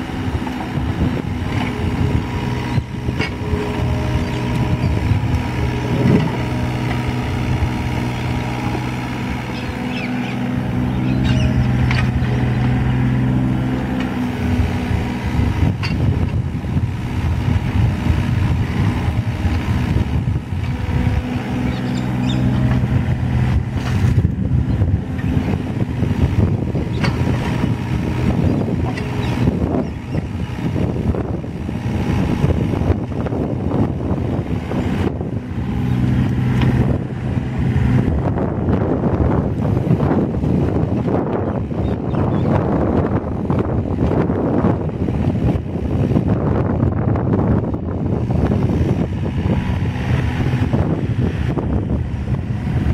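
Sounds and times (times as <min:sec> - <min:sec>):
excavator diesel engine running: 0:00.0 - 0:52.9
wind rumbling on microphone: 0:00.0 - 0:52.9.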